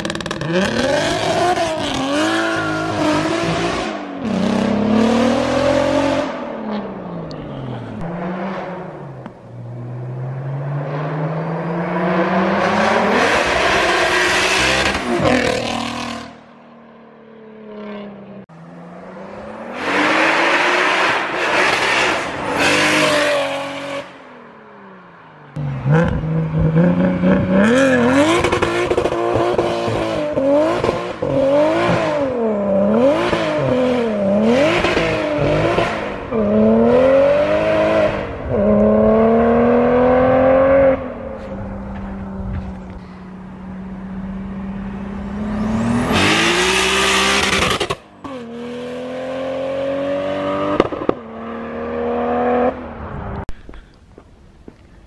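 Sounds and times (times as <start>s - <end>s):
car engine revving: 0.0s - 16.5s, 17.7s - 24.2s, 25.5s - 53.5s.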